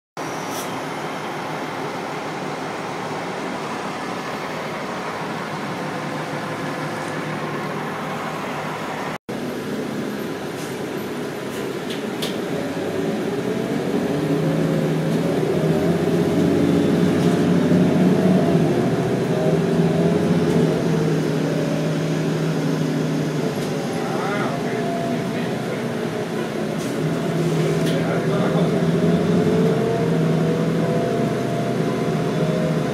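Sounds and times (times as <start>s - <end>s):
bus engine running: 0.2s - 32.9s
droning hum inside bus cabin: 0.2s - 32.9s.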